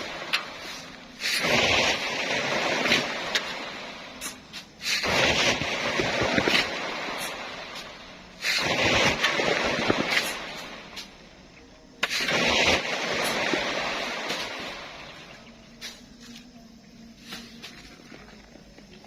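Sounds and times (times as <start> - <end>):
sand being shovelled: 0.0 - 11.2, 12.0 - 16.5, 17.2 - 18.0.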